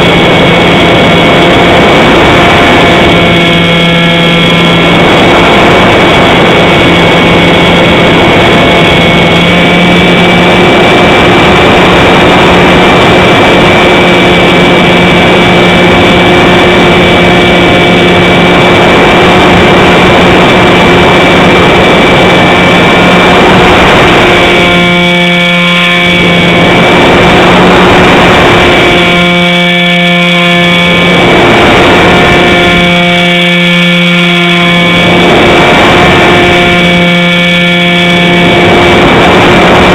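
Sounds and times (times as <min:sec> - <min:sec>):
model plane motor and propeller: 0:00.0 - 0:39.9
wind rushing over microphone: 0:00.0 - 0:39.9.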